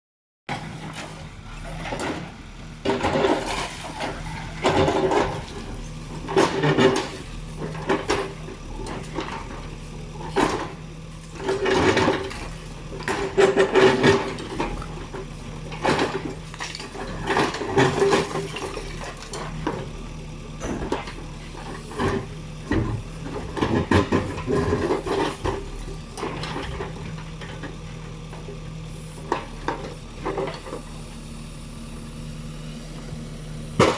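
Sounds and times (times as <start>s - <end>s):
diesel engine running: 0.5s - 33.9s.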